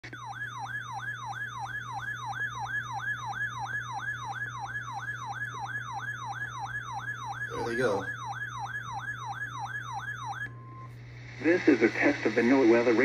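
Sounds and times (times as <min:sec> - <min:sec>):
warbling alert siren: 0:00.0 - 0:11.0
low steady hum: 0:00.1 - 0:13.0.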